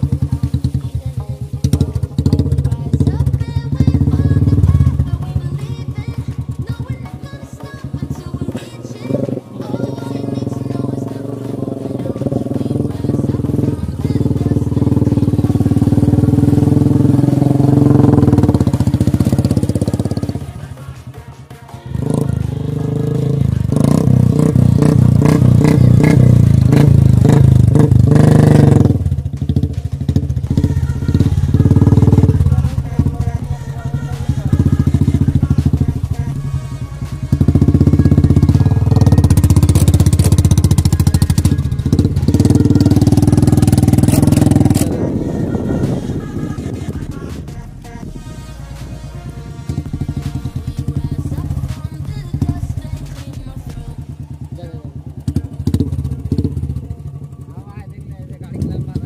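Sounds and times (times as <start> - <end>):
wheels churning through mud: 0.0 - 21.0, 22.0 - 59.0
motorcycle engine revving: 0.0 - 59.0.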